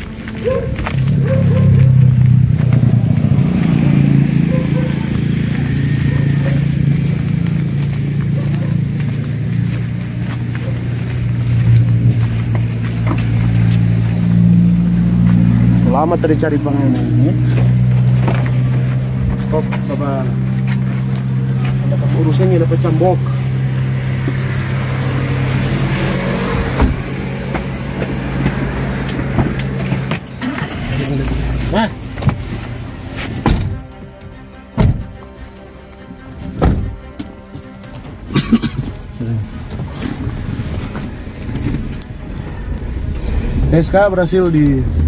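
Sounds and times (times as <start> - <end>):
footsteps on dirt: 0.0 - 43.8
car engine idling: 0.0 - 45.0.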